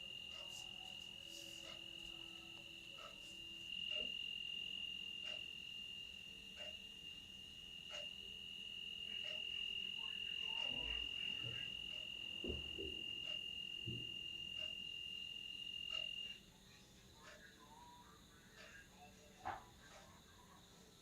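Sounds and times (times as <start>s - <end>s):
high-pitched insect trill: 0.0s - 19.1s.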